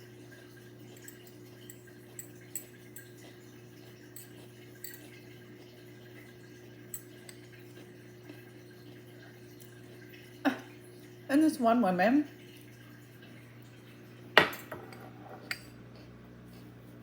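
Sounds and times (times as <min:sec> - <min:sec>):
faint water trickle: 0:00.0 - 0:14.7
dishwasher humming: 0:00.0 - 0:16.0.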